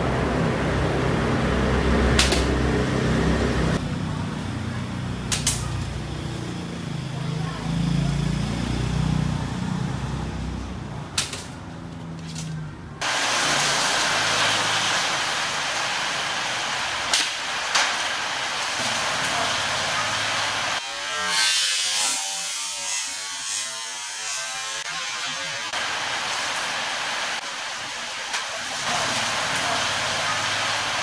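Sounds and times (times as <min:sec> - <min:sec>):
city traffic hiss: 0:00.0 - 0:20.8, 0:25.2 - 0:31.0.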